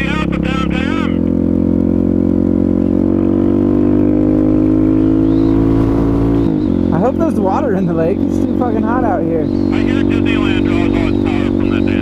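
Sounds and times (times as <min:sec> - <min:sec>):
motorcycle engine pulling steadily: 0:00.0 - 0:12.0.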